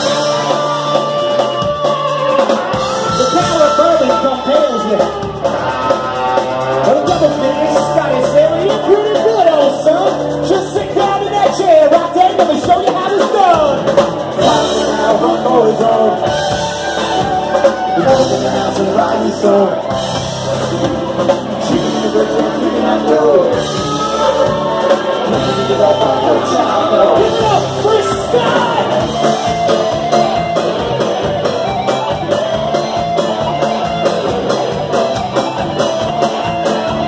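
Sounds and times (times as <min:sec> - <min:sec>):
bass guitar: 0:00.0 - 0:37.0
drum kit: 0:00.0 - 0:37.0
electric lead guitar: 0:00.0 - 0:37.0.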